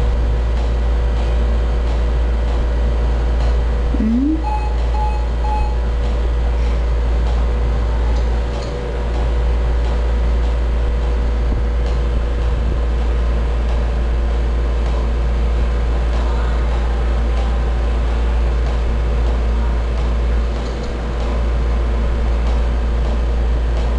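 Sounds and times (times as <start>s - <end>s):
medical equipment hum: 0.0s - 23.9s.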